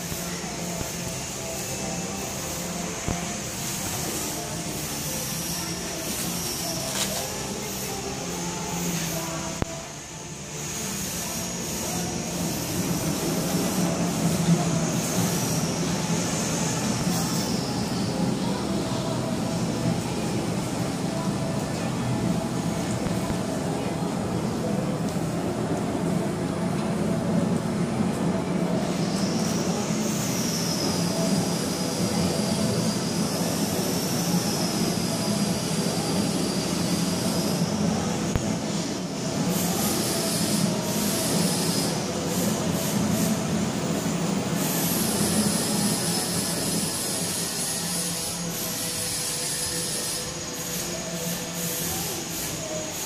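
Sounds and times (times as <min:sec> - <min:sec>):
high wavering whine: 0:00.0 - 0:53.0.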